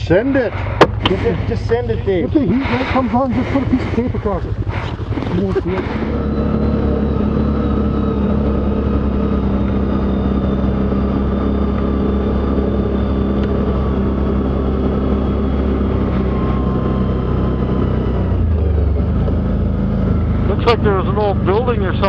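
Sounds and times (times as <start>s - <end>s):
atv engine droning: 0.0s - 22.0s.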